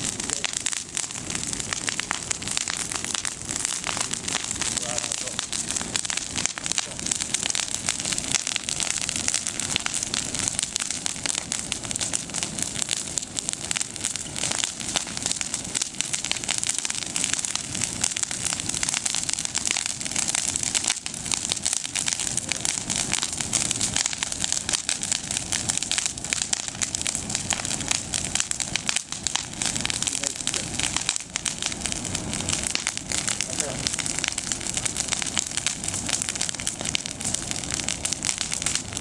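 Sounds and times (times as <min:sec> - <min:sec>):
bonfire crackling: 0:00.0 - 0:39.0.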